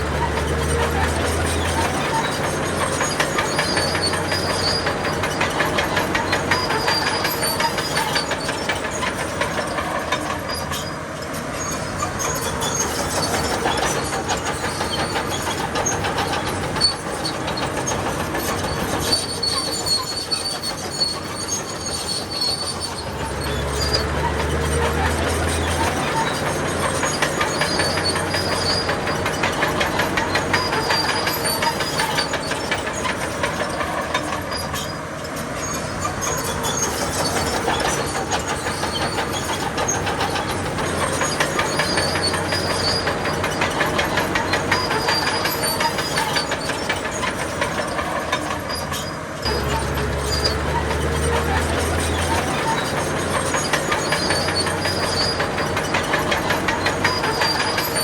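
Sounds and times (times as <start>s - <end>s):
diesel engine rumble: 0.0s - 58.0s
rapid metallic track clatter: 0.0s - 58.0s.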